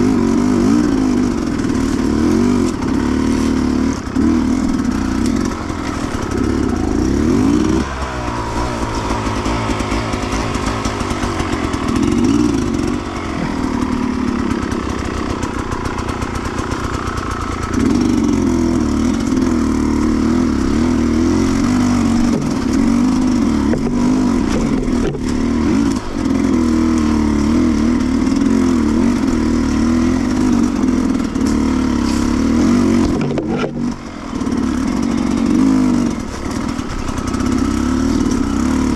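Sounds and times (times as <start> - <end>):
motorcycle engine revving: 0.0 - 38.9
sharp clacks from motorcycle: 0.0 - 38.9.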